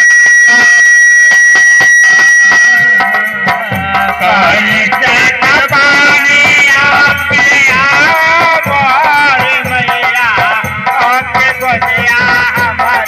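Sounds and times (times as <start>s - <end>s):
harmonium: 0.0s - 13.0s
hand drum beat: 1.3s - 13.0s
man singing: 2.5s - 13.0s.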